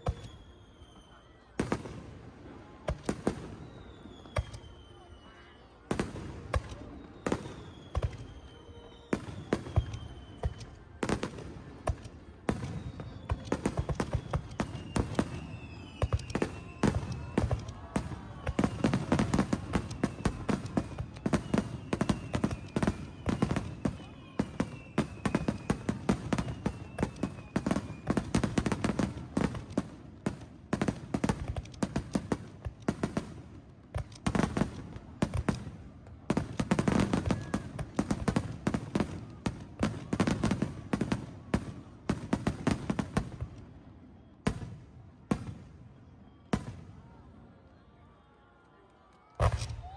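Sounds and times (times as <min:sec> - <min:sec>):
falling firework whistles: 0:00.0 - 0:02.0, 0:02.9 - 0:33.4, 0:36.3 - 0:44.8
fireworks bangs and crackling: 0:00.0 - 0:47.6, 0:49.4 - 0:49.9.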